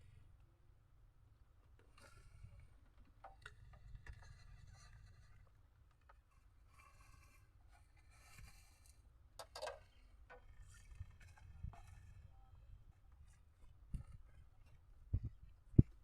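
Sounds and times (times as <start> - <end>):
small clicks and scrapes: 1.6 - 16.0.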